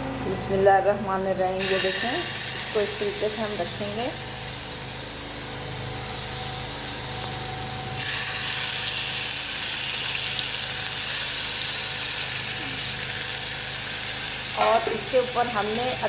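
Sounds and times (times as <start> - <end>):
chicken sizzling in a pan: 1.5 - 16.0.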